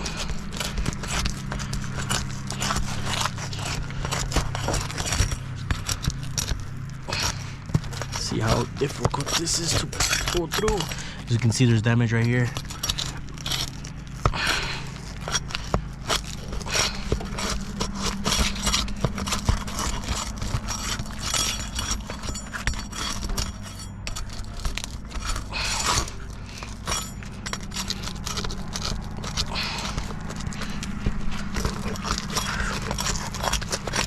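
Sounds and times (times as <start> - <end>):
shingles cracking: 0.0 - 34.0
steady low hum: 0.0 - 34.0
tools prying roof shingles: 0.0 - 34.0.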